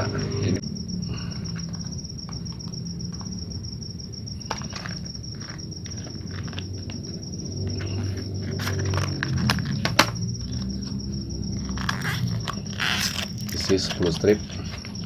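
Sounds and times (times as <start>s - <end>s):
high insect trill: 0.0s - 15.0s.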